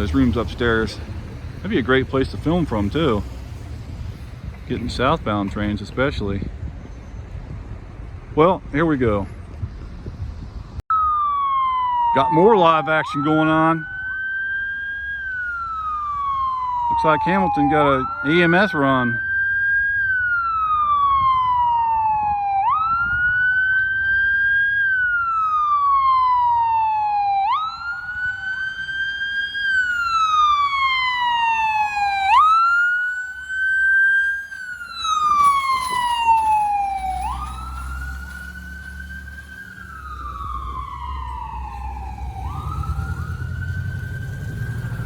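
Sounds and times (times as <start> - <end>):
ambulance siren wailing: 0.0 - 5.7, 10.8 - 45.0.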